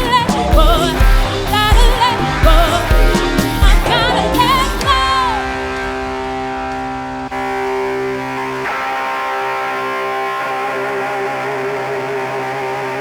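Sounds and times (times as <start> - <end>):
distorted electric guitar chords: 0.0 - 13.0.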